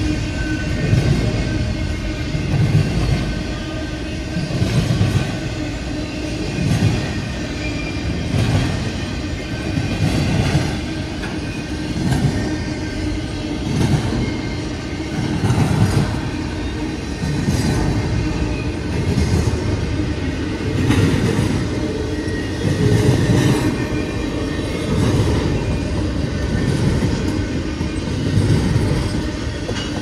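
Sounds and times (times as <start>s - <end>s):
freight train rumble: 0.0s - 30.0s
train wheels clacking: 0.0s - 30.0s.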